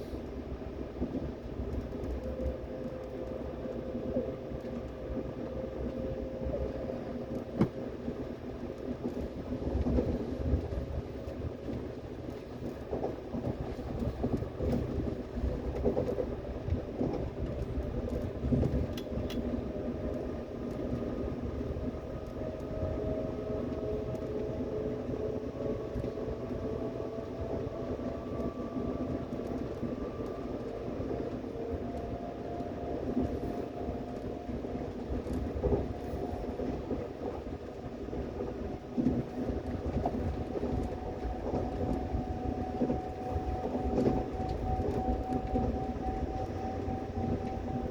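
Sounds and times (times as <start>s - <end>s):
subway train rumbling on track: 0.0s - 47.9s.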